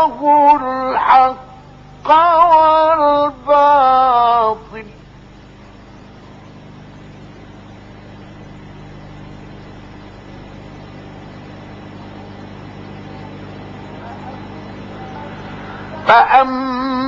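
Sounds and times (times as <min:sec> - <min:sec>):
recording hiss and hum: 0:00.0 - 0:17.0.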